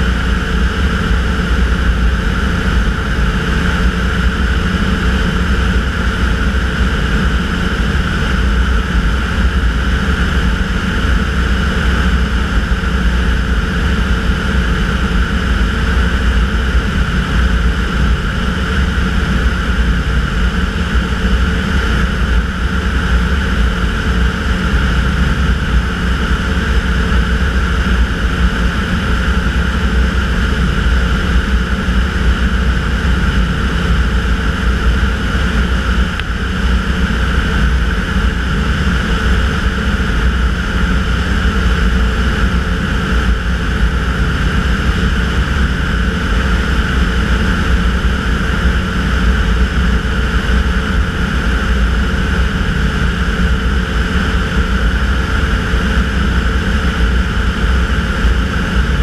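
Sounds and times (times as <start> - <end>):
low wind rumble on microphone: 0.0 - 59.0
propeller engine droning: 0.0 - 59.0.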